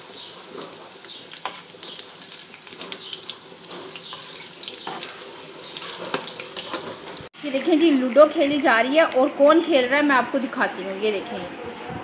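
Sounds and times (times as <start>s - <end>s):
seeds sizzling in hot oil: 0.0s - 9.6s.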